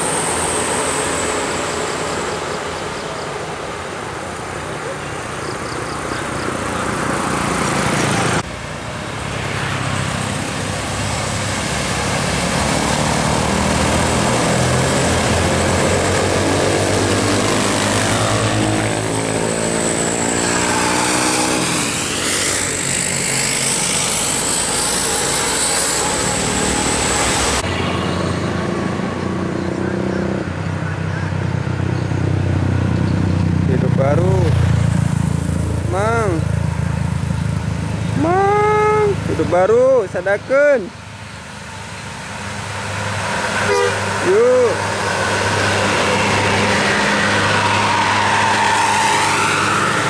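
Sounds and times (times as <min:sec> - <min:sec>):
bus diesel engine passing: 0:00.0 - 0:50.0
motorcycles driving past: 0:01.1 - 0:40.2, 0:42.5 - 0:50.0.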